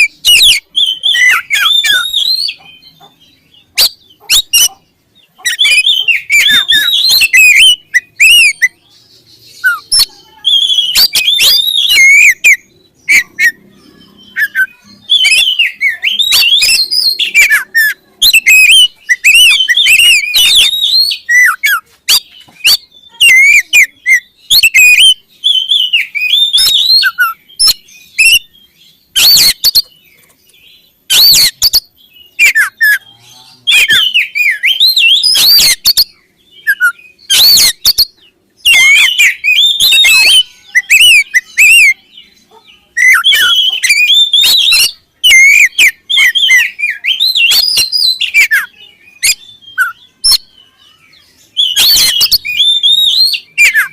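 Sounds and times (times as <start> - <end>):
bird singing whistled phrases: 0.0 - 3.0, 5.4 - 30.1, 31.1 - 42.3, 42.9 - 53.9
harsh bird notes: 0.0 - 53.9.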